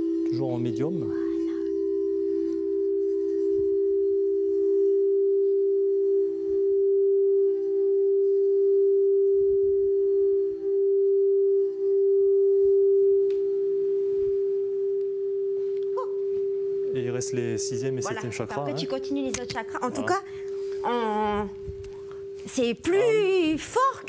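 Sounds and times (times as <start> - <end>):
singing bowl tone: 0.0 - 24.0.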